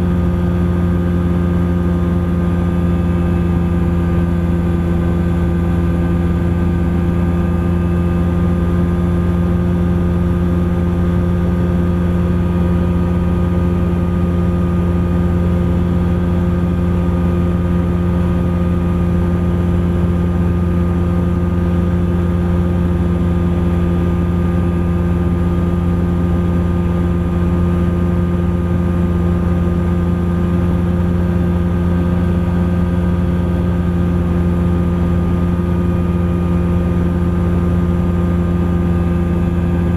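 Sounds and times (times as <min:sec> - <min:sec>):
ultralight aircraft engine drone: 0:00.0 - 0:39.9.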